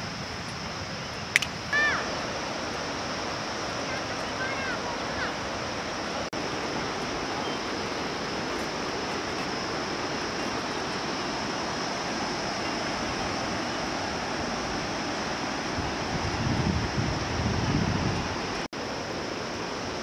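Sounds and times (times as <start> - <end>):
thin high hiss: 0.0 - 20.0.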